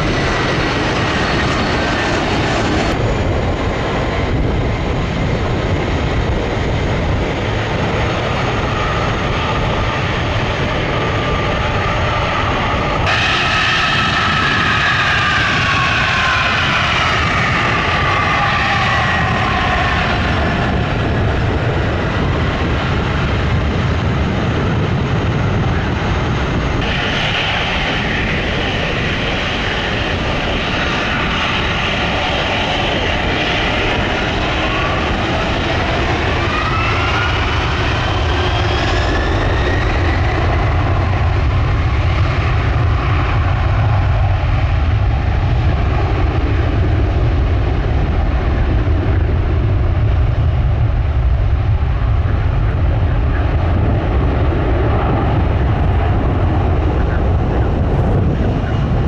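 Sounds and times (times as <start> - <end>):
jet airliner taking off: 0.0 - 59.0
jet engine whines: 0.0 - 59.0.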